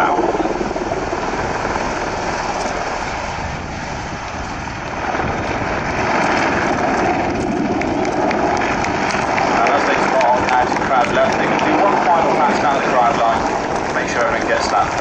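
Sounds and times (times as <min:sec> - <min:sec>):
helicopter rotor beating: 0:00.0 - 0:15.0
turboshaft engine rumble: 0:00.0 - 0:15.0.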